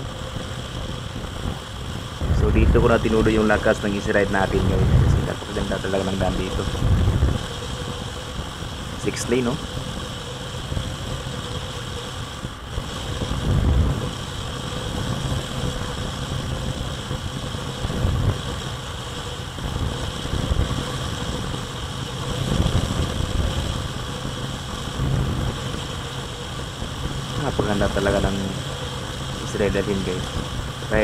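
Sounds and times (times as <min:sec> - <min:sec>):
motorcycle engine drone: 0:00.0 - 0:31.0
wind buffeting microphone: 0:00.0 - 0:31.0.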